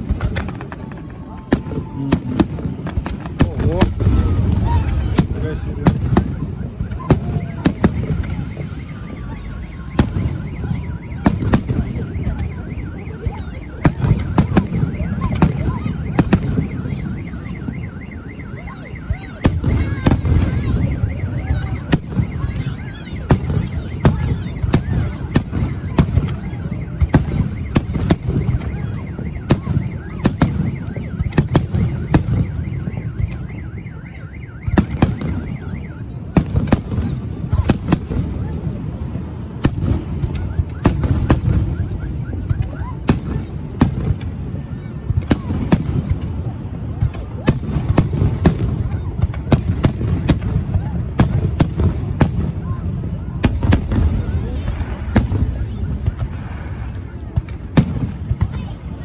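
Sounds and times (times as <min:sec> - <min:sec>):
car alarm warbling: 0:00.0 - 0:51.2
fireworks bursting: 0:00.0 - 0:59.0.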